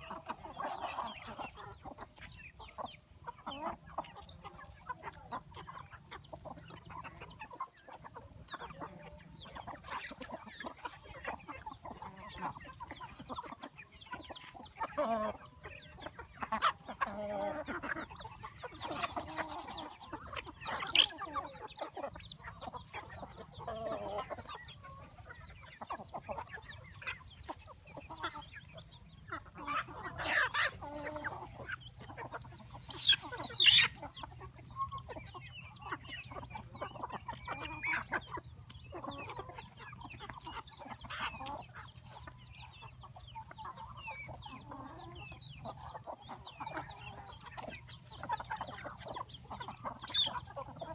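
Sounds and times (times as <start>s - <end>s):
chickens clucking: 0.0s - 50.9s.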